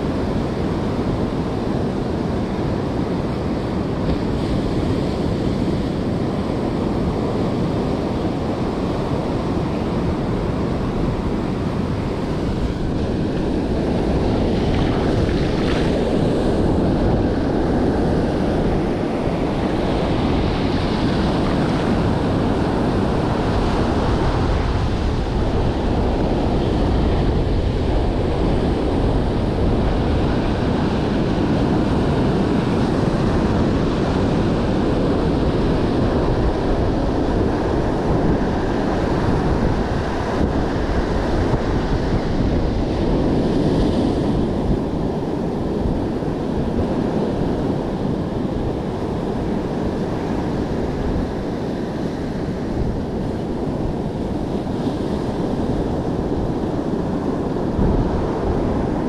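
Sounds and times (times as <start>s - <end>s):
ocean surf breaking: 0.0s - 59.0s
wind on microphone: 0.0s - 59.0s.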